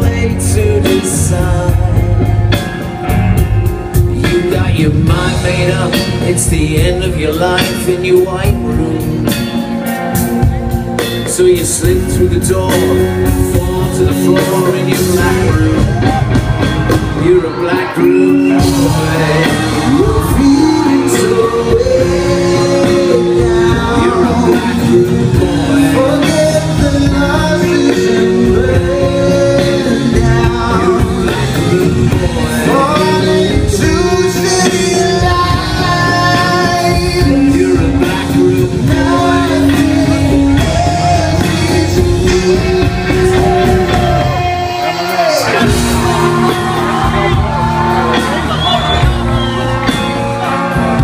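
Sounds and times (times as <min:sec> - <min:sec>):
drums: 0:00.0 - 0:51.0
live acoustic band playing: 0:00.0 - 0:51.0.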